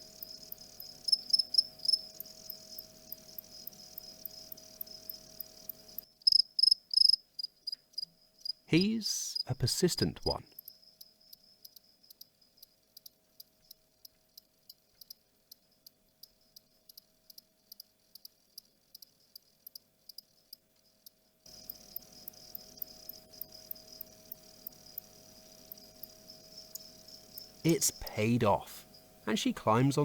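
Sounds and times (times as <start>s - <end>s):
cricket ticking song: 0.0s - 9.5s, 10.3s - 30.0s
background hiss: 0.0s - 30.0s.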